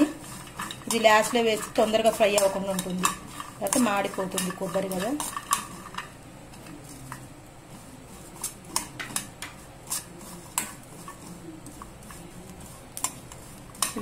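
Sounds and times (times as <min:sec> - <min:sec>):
metal spoon clinking and scraping pan: 0:00.0 - 0:06.2, 0:08.2 - 0:14.0.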